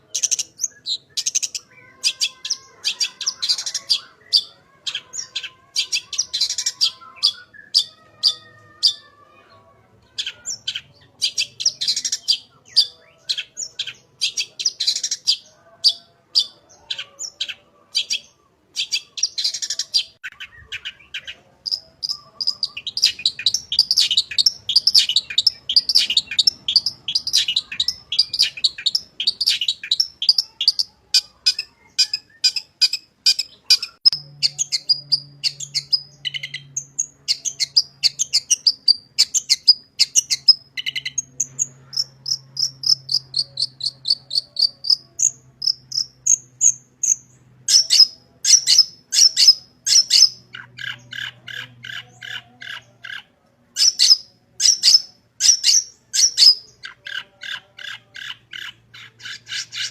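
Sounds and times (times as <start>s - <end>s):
shrike singing chirps and trills: 0.0s - 9.4s, 10.1s - 59.9s.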